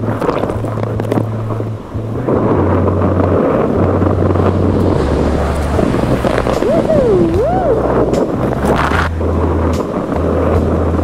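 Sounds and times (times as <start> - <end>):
heavy surf rushing: 0.0 - 11.0
wind buffeting microphone: 0.0 - 11.0.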